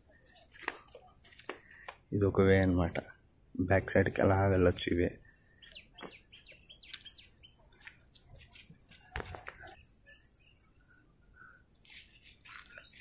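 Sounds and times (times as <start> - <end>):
birds chirping: 0.0 - 13.0
high-pitched insect drone: 0.0 - 13.0.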